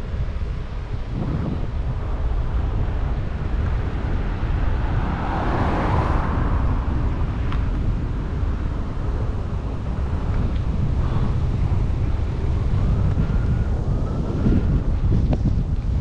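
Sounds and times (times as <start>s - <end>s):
wind rumbling on microphone: 0.0s - 16.0s
vehicle passing: 1.1s - 15.6s.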